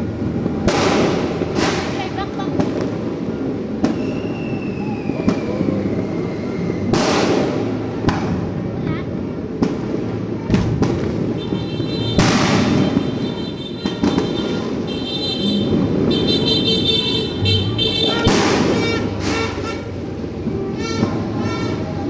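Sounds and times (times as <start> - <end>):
firecrackers crackling: 0.0 - 22.0
firework bangs: 0.0 - 22.0.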